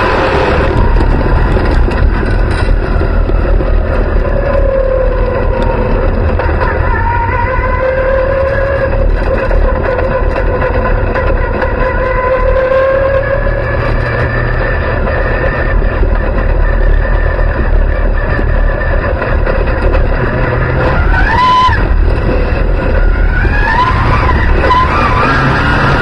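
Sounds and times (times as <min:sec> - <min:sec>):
race car engine running: 0:00.0 - 0:26.0.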